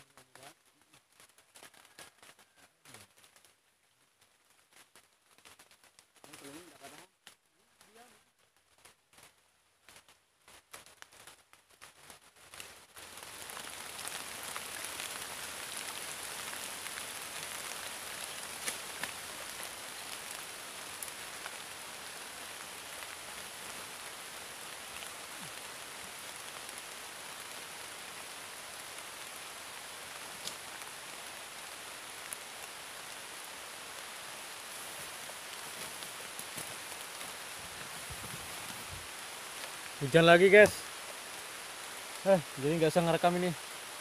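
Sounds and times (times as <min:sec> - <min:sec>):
rain falling on pond: 0:00.0 - 0:44.0.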